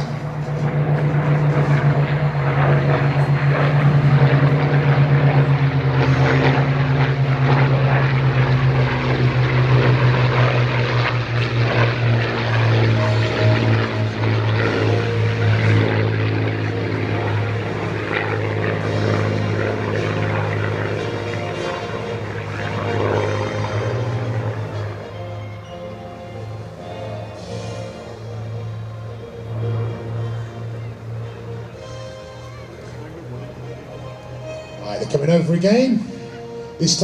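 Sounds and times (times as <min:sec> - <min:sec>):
model aircraft engines droning: 0:00.0 - 0:37.0.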